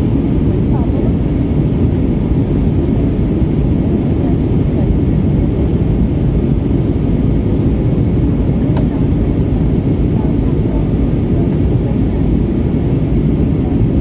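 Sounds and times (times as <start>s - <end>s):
jet airliner cabin noise: 0.0s - 14.0s.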